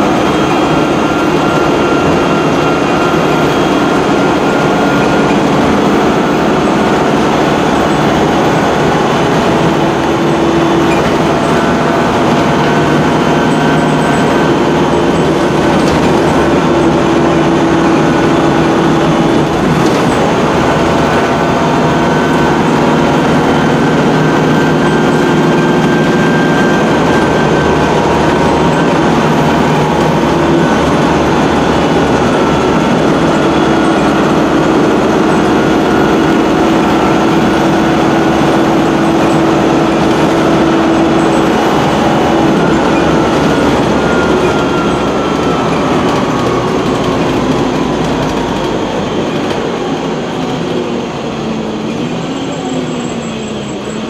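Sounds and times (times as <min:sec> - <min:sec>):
bus diesel engine under load: 0:00.0 - 0:54.0
road noise: 0:00.0 - 0:54.0.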